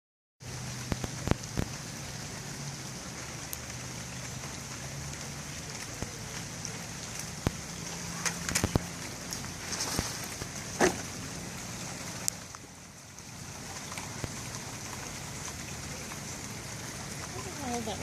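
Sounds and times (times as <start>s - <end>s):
steady rain falling: 0.4s - 18.0s
taps of single raindrops: 0.7s - 2.4s, 3.2s - 18.0s.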